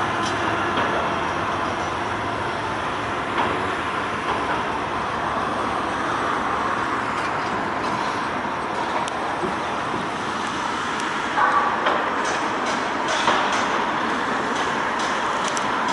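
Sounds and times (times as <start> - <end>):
train rolling past: 0.0 - 15.9.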